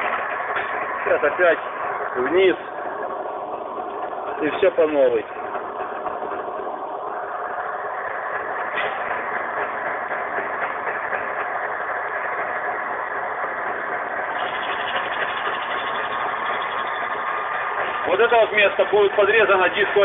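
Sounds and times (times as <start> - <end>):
milling machine whine: 0.0 - 20.0.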